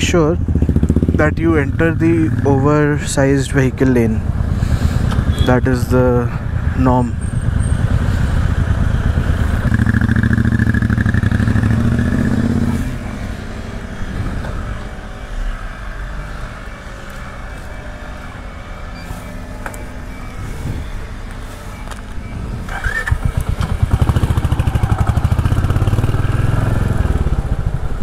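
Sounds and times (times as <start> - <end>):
motorcycle engines running: 0.0 - 28.0.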